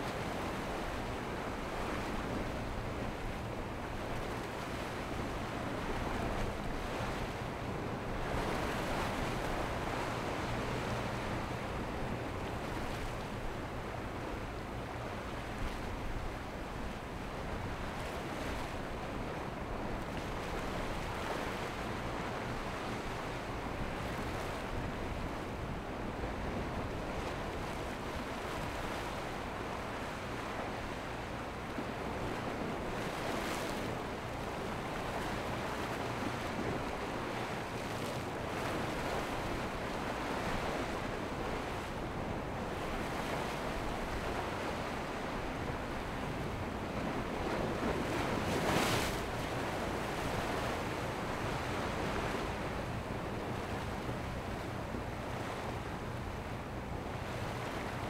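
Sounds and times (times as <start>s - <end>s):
waves breaking: 0.0s - 58.0s.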